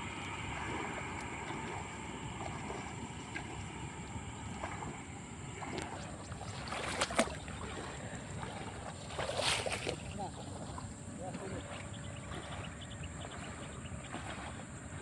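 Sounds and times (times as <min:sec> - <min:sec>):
steady high-pitched whine: 0:00.0 - 0:15.0
water sloshing and splashing: 0:00.0 - 0:15.0.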